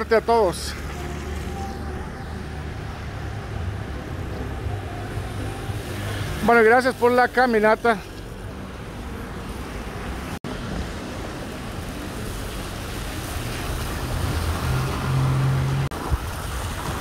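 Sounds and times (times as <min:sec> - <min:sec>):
vehicles hissing on wet road: 0:00.0 - 0:17.0.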